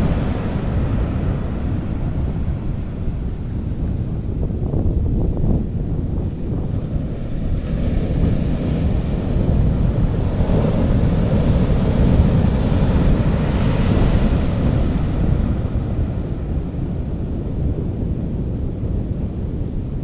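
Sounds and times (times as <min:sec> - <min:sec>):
waves washing onto a beach: 0:00.0 - 0:04.5, 0:05.8 - 0:20.0
low rumble of surf: 0:00.0 - 0:20.0.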